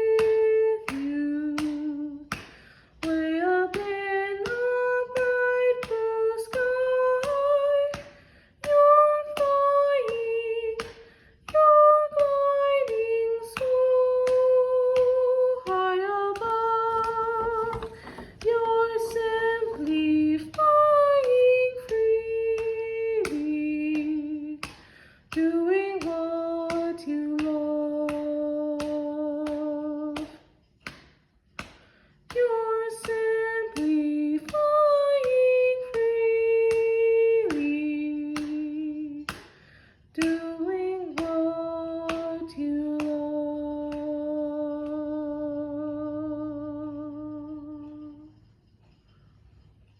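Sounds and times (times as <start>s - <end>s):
woman singing soprano: 0.0s - 30.5s, 32.3s - 39.5s, 40.1s - 48.4s.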